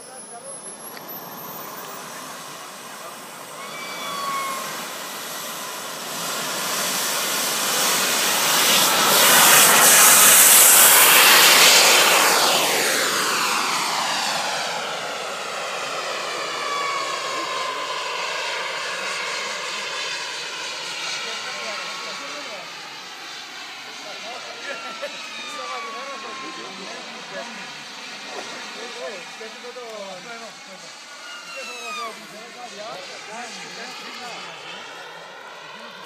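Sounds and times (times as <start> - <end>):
model jet turbine whine: 0.0 - 36.0.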